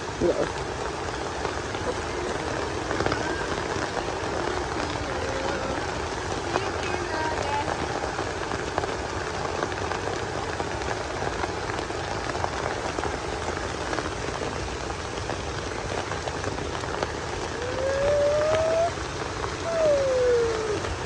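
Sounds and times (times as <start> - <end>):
rain pattering: 0.0 - 21.0.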